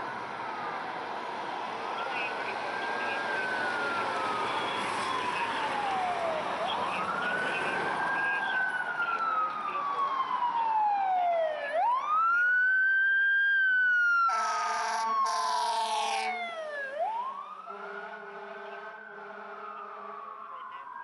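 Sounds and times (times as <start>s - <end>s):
fire engine siren wailing: 0.0s - 21.0s
road traffic rumble: 0.0s - 21.0s.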